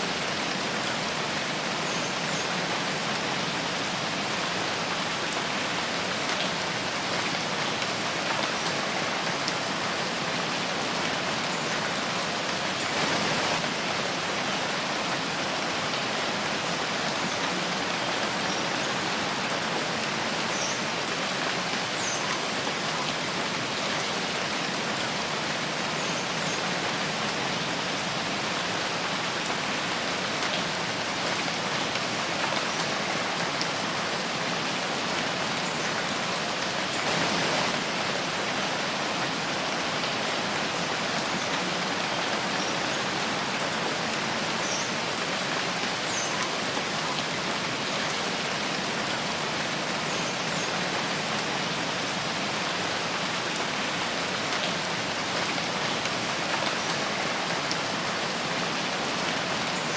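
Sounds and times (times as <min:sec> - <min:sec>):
rain in forest: 0:00.0 - 0:59.9.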